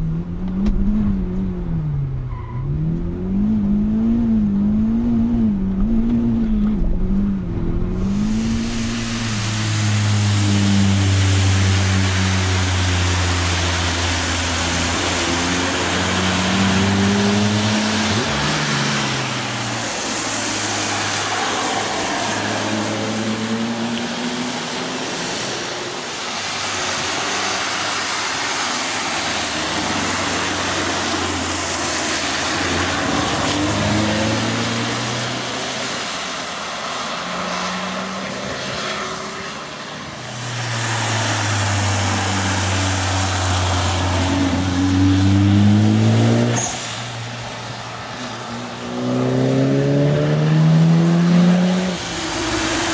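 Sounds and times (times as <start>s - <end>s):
race cars passing: 0.0s - 52.9s
tyres hissing on wet tarmac: 7.9s - 52.9s.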